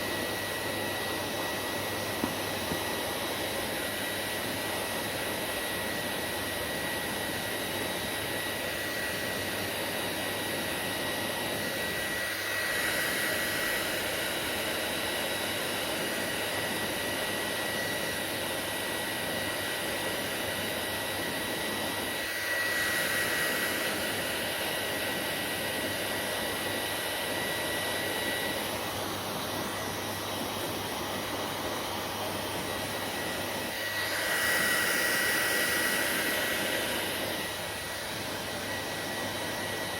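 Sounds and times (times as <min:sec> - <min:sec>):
hair dryer blowing with motor whine: 0:00.0 - 0:39.9.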